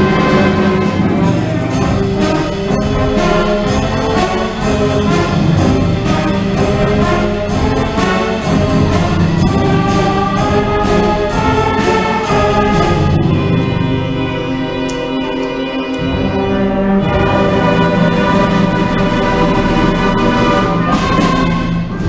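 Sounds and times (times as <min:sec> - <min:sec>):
brass melody: 0:00.0 - 0:22.0
percussion strikes: 0:00.0 - 0:22.0.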